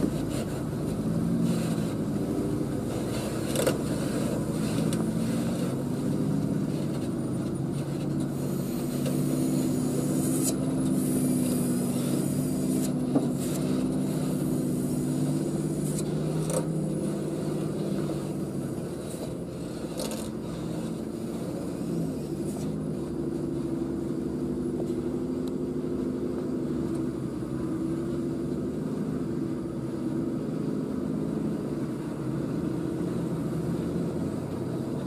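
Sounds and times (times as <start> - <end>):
diesel truck engine droning: 0.0 - 35.0.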